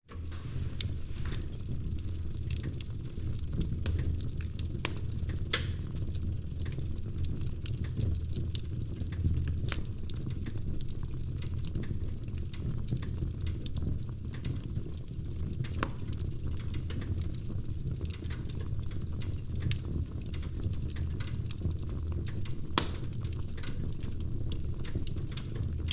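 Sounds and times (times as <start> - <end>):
log fire crackling: 0.1 - 25.9.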